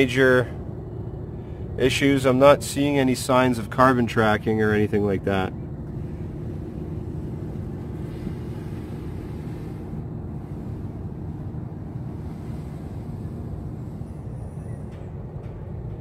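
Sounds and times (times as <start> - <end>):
faint hum: 0.0 - 16.0
low background rumble: 0.0 - 16.0.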